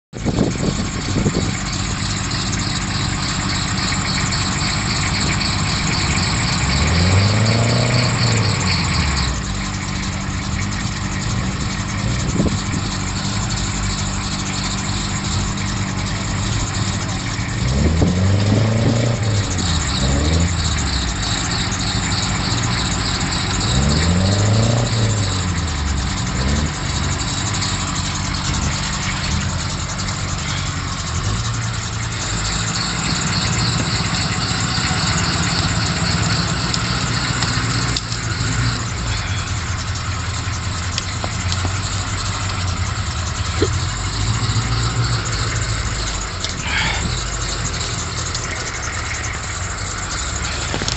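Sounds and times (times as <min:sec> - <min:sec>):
truck engine revving: 0:00.1 - 0:50.9.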